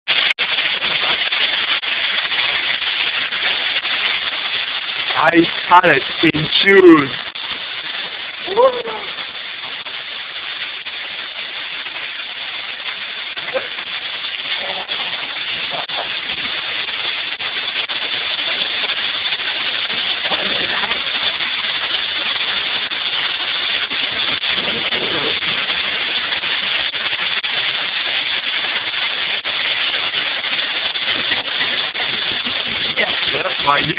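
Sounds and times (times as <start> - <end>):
hail and rain pelting: 0.1 - 33.9.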